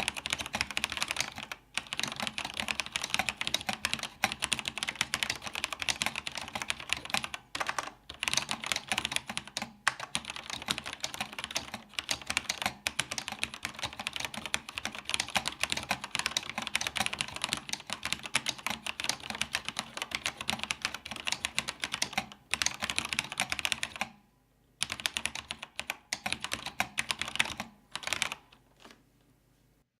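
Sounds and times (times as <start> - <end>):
fast keyboard typing: 0.0 - 24.2, 24.8 - 28.6.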